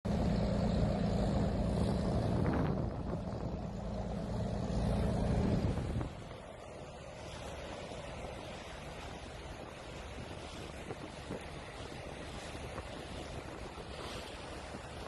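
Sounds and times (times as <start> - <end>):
boat engine humming: 0.0 - 15.0
wind and waves: 0.1 - 15.0.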